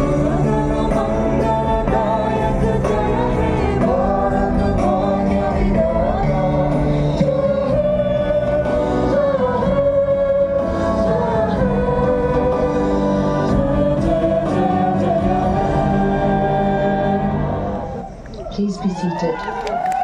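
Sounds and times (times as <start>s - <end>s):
choir-like singing: 0.0s - 18.2s
steady musical accompaniment: 0.0s - 20.0s.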